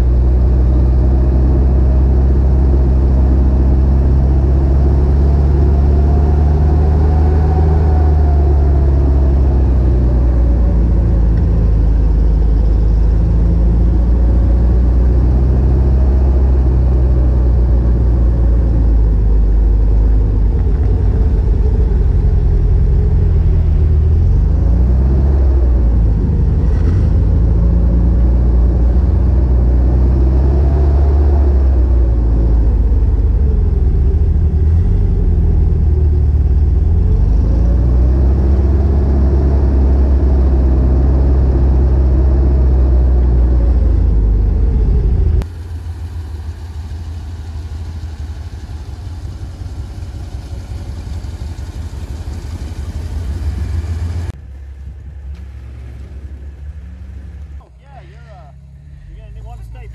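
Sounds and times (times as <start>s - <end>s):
steady vehicle noise: 0.0s - 59.9s
truck engine rumbling: 0.0s - 59.9s.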